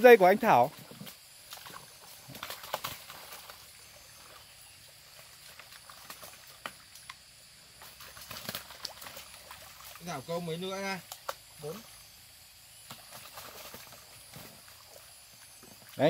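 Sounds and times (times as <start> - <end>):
faint water sloshing: 0.0 - 16.0.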